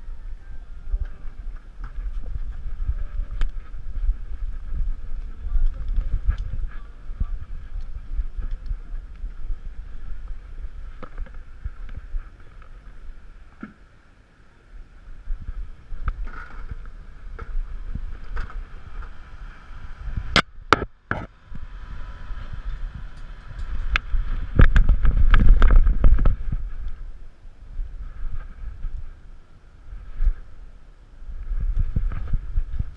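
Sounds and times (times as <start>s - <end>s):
wind buffeting and rubbing on microphone: 0.0s - 13.6s, 14.7s - 32.9s.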